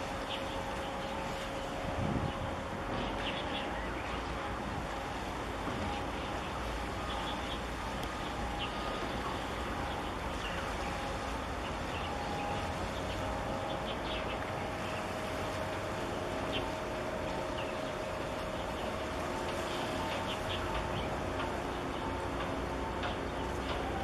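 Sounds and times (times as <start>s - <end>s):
faint steady hums: 0.0s - 24.0s.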